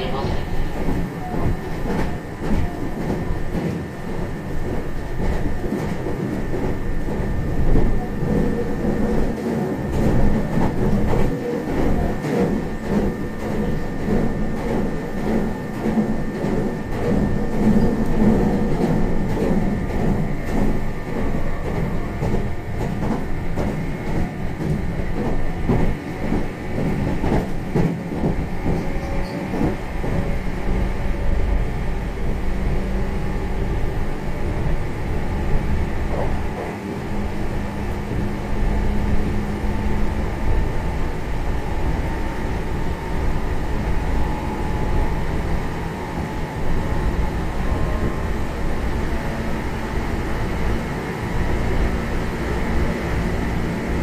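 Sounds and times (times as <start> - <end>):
train interior rumble: 0.0 - 54.0.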